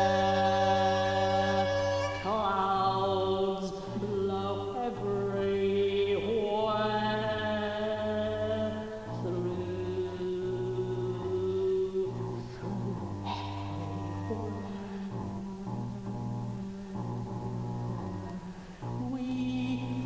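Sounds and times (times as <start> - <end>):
low pulsing drone: 0.0 - 20.0
wordless vocal chanting: 0.0 - 20.0.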